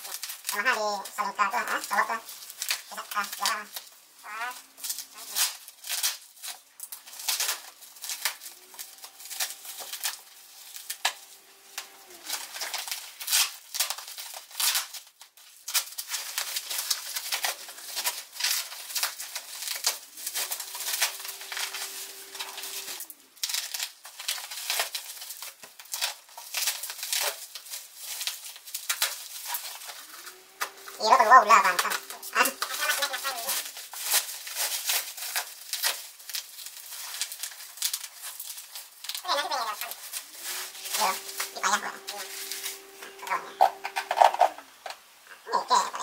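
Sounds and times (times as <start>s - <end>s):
plastic film and bubble wrap crinkling: 0.0s - 46.0s.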